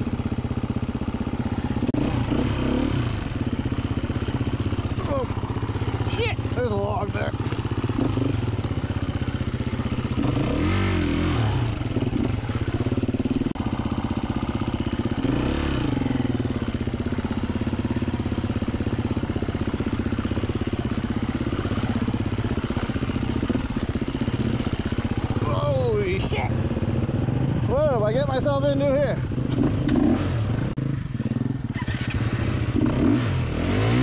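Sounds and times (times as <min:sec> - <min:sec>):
dirt bike engine idling: 0:00.0 - 0:34.0
dirt bike engine revving: 0:01.1 - 0:34.0.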